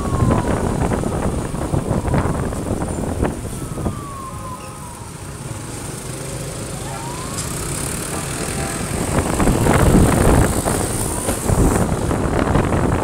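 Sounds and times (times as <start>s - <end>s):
wind buffeting microphone: 0.0s - 6.1s, 7.0s - 13.0s
motorbike and traffic rumble: 0.0s - 13.0s.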